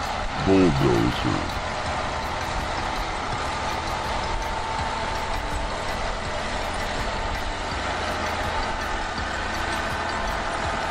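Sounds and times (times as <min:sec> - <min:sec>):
bulldozer engine running: 0:00.0 - 0:10.9
steady high whine: 0:00.0 - 0:10.9.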